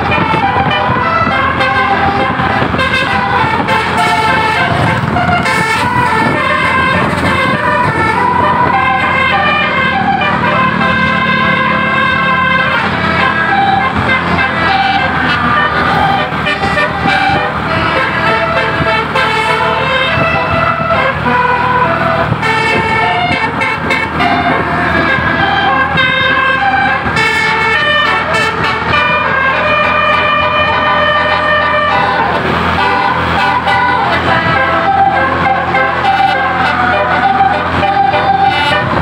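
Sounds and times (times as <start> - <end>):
musical air horn melody: 0.0 - 39.0.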